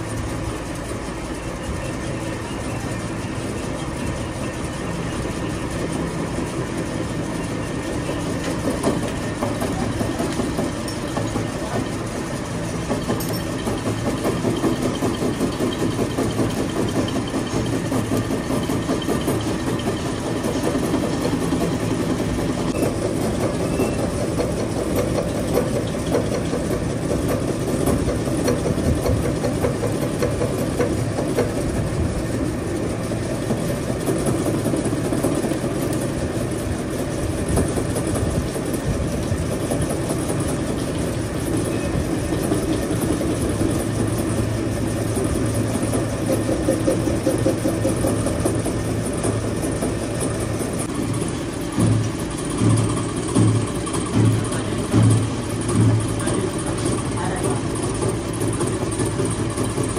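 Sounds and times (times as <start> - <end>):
machine rumbling: 0.0 - 59.9.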